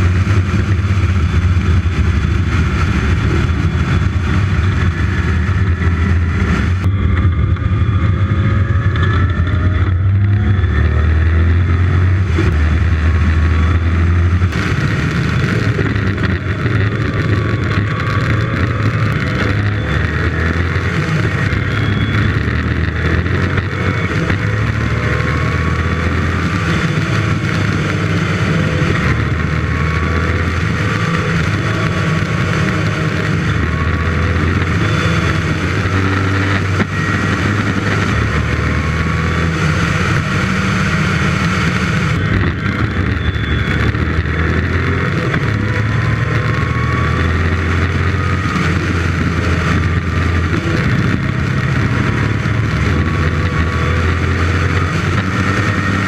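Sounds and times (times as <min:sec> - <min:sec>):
sports car engine revving: 0:00.0 - 0:56.0.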